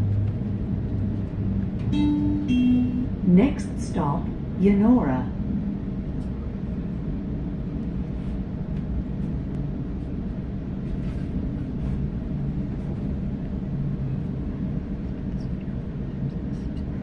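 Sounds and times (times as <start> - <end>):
electric train rumble inside carriage: 0.0 - 17.0.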